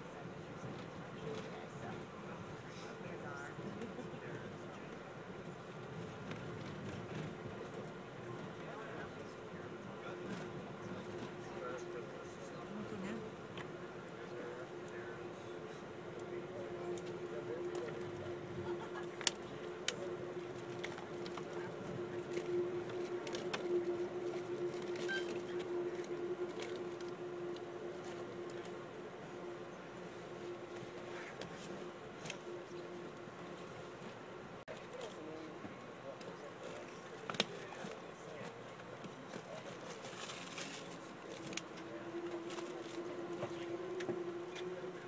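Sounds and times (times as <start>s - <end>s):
steady hum: 0.0s - 38.7s, 39.5s - 45.0s
rumble of running train: 0.0s - 45.0s.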